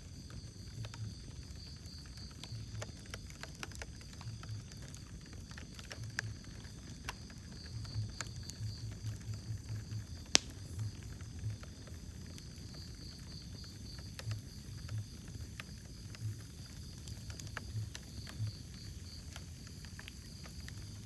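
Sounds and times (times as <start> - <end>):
fire crackling: 0.0 - 21.0
sharp pops from fire: 0.0 - 21.0.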